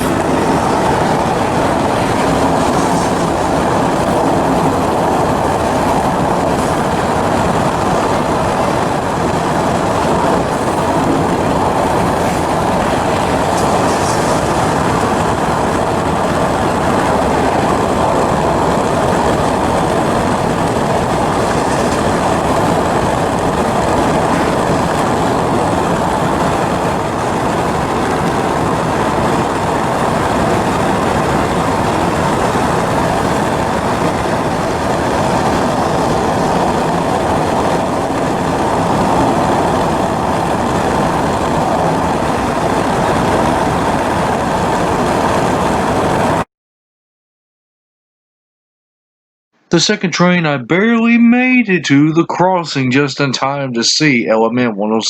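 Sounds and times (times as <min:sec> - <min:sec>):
freight train rumbling and rattling: 0:00.0 - 0:46.4.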